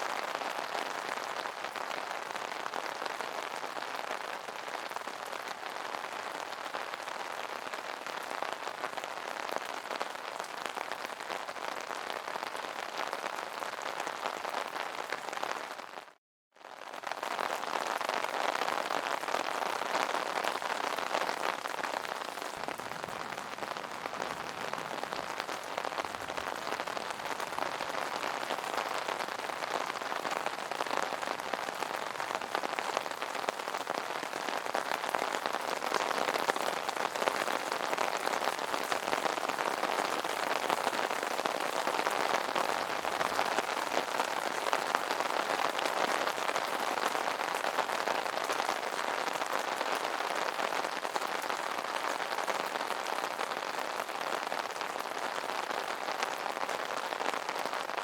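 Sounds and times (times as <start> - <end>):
rain on an umbrella: 0.0 - 58.0.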